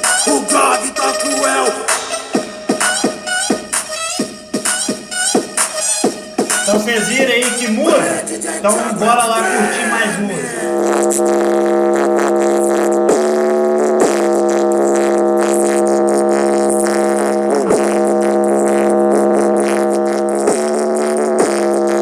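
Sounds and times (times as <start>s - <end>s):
music through small speaker: 0.0s - 22.0s.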